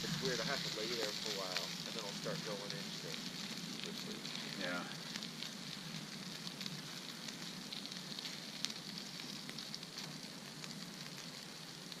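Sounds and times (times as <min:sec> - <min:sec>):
campfire crackling and hissing: 0:00.0 - 0:12.0
sharp pops of fire: 0:00.0 - 0:12.0.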